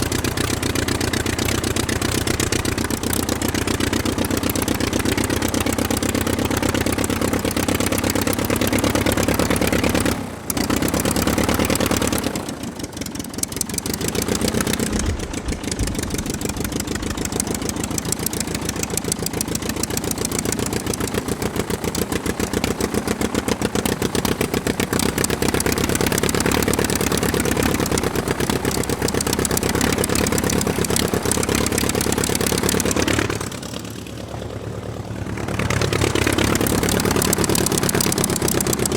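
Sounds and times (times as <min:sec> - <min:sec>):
piston engine running: 0:00.0 - 0:38.9.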